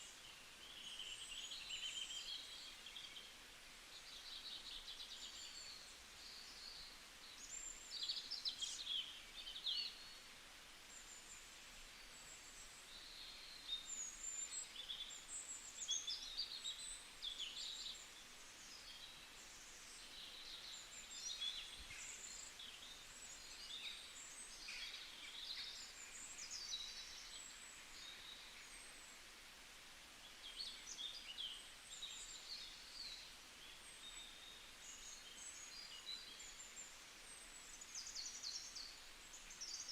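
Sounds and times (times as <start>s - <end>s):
faint outdoor hiss: 0.0s - 39.9s
songbirds chirping and trilling: 0.0s - 39.9s.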